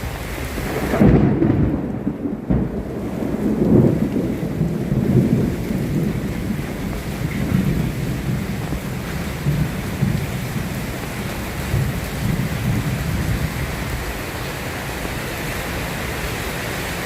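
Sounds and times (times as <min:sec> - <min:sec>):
steady rain: 0:00.0 - 0:17.0
rolling thunder: 0:00.4 - 0:16.6.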